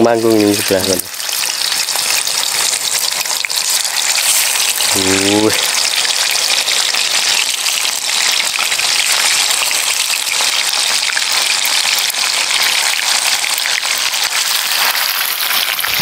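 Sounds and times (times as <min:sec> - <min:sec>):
deep-frying sizzle with crackling: 0:00.0 - 0:16.0.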